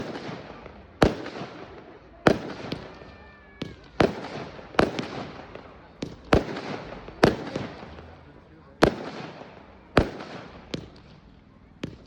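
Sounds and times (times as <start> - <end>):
fireworks bangs with echoing rumble: 0.0 - 12.0.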